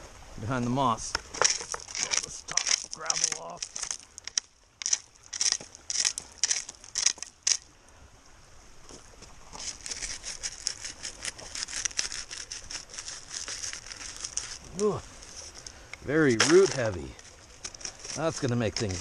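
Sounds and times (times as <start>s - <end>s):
plastic scoop scraping gravel: 1.2s - 7.4s, 9.5s - 19.0s.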